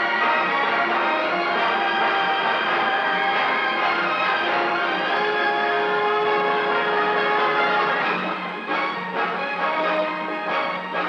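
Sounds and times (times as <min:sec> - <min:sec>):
orchestral music holding chords: 0:00.0 - 0:11.0.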